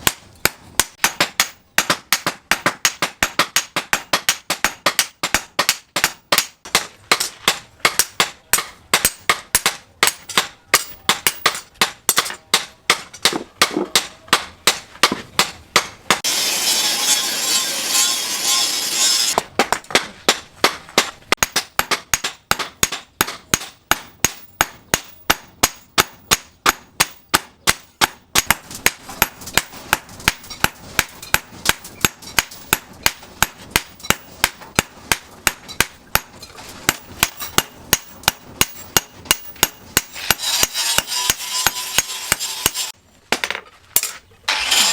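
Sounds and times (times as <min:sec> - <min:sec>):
hammer striking steel on anvil: 0:00.0 - 0:44.9.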